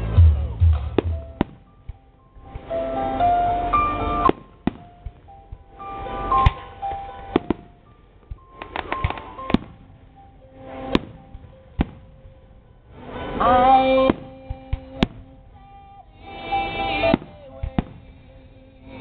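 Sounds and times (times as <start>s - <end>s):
fireworks bursting: 0.0s - 3.1s, 3.7s - 16.0s, 16.7s - 19.0s
music-like tones: 0.0s - 19.0s.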